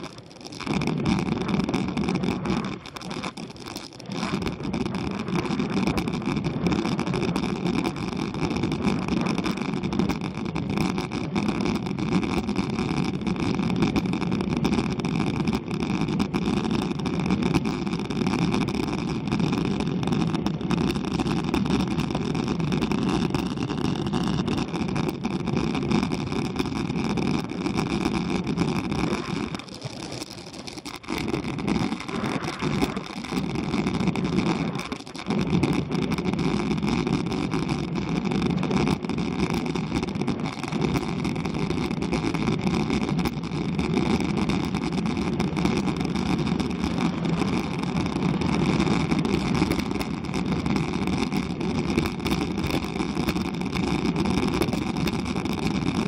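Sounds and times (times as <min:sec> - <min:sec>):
bicycle tyre and road rumble: 0:00.0 - 0:56.0.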